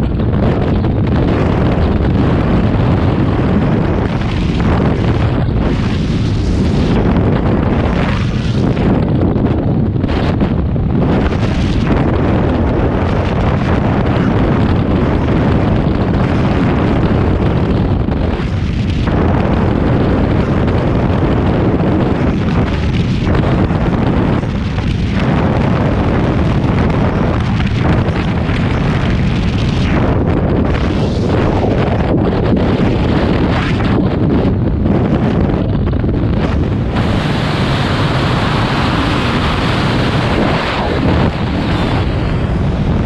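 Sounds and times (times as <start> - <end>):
wind rushing over microphone: 0.0 - 43.0.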